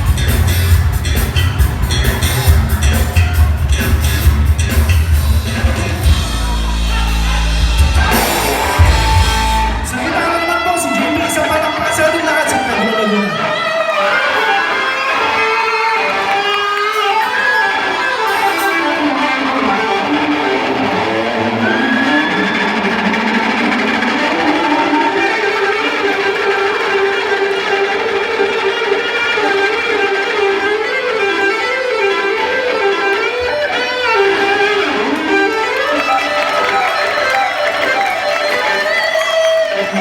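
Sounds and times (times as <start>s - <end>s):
electric guitar melody: 0.0s - 40.0s
rock band playing live: 0.0s - 40.0s.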